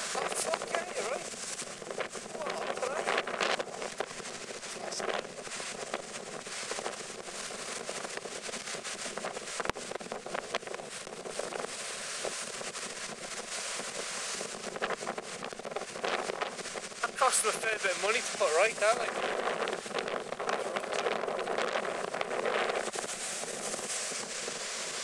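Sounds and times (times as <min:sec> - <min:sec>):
surf breaking over rocks: 0:00.0 - 0:25.0
wind buffeting microphone: 0:00.0 - 0:25.0.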